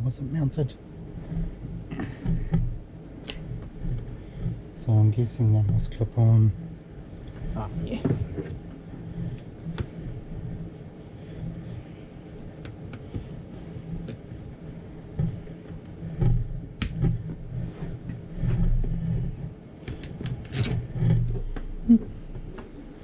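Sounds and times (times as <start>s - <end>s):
low rumble of handling: 0.0s - 23.0s.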